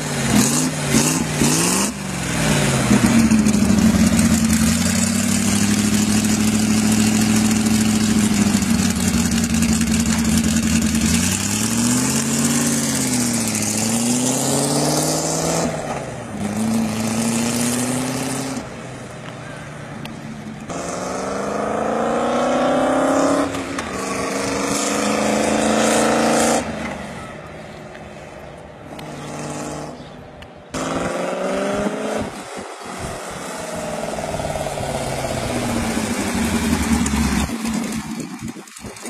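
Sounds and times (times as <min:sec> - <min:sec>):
motorcycle engine revving: 0:00.0 - 0:18.8, 0:20.6 - 0:27.5, 0:29.0 - 0:39.0.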